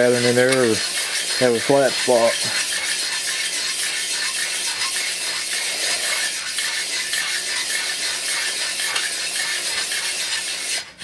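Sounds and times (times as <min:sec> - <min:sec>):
cylinder hone scraping: 0:00.0 - 0:10.8
drill running slowly: 0:00.0 - 0:11.0.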